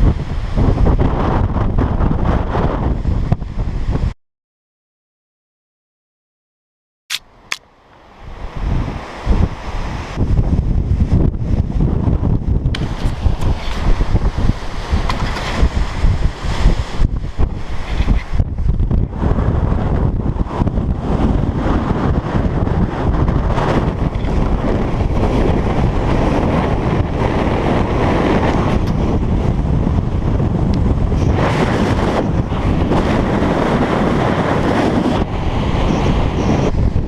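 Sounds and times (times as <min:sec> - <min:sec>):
strong wind buffeting microphone: 0:00.0 - 0:04.2, 0:07.3 - 0:37.0.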